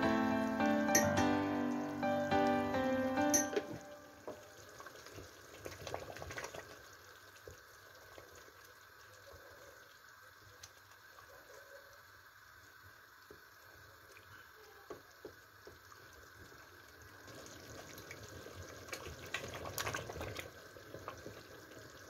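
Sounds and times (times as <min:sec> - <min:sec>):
stew simmering in pot: 0:04.2 - 0:22.0.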